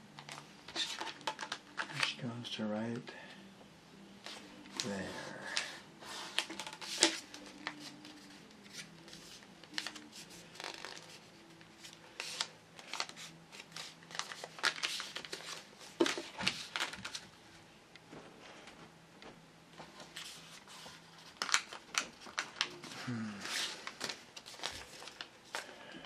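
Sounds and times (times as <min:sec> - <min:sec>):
paper rustling and crinkling: 0:00.2 - 0:02.2, 0:04.2 - 0:17.3, 0:19.8 - 0:25.8.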